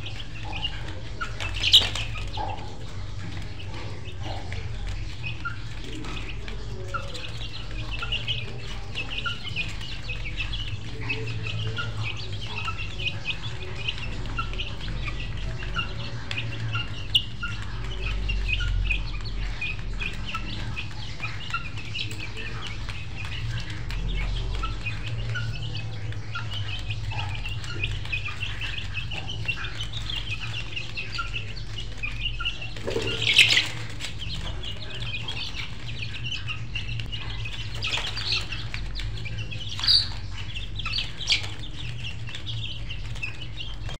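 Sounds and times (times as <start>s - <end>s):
birds chirping rapidly: 0.0s - 43.9s
chickens clucking: 0.0s - 43.9s.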